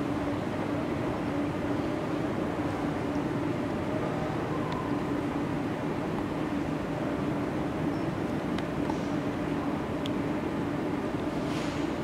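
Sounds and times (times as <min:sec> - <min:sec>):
terminal ambience hum: 0:00.0 - 0:12.0.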